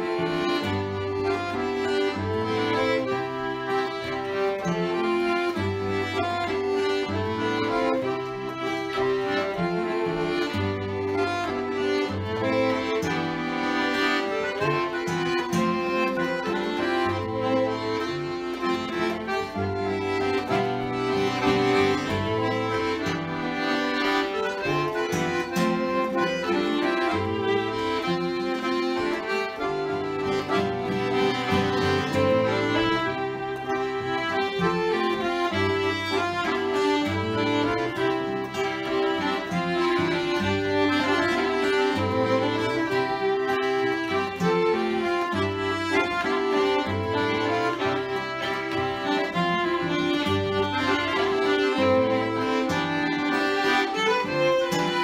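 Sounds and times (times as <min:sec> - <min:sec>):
button accordion: 0:00.0 - 0:55.0
fiddle: 0:00.0 - 0:55.0
strummed acoustic guitar: 0:00.0 - 0:55.0.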